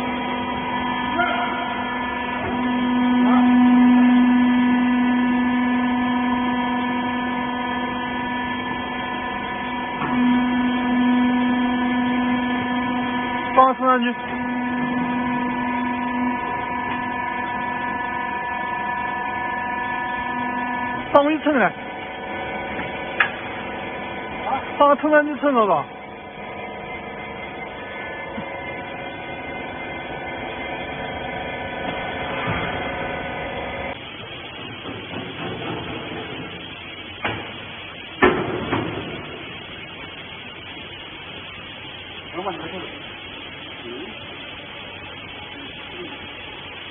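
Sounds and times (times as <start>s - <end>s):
electric motor and pump humming: 0.0s - 46.9s.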